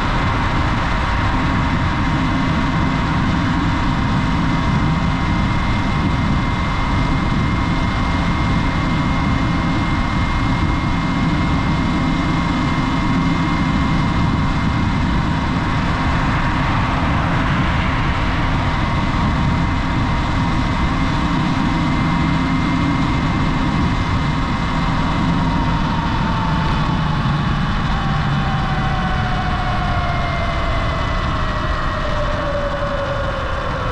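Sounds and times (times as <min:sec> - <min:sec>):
low rumble: 0:00.0 - 0:33.9.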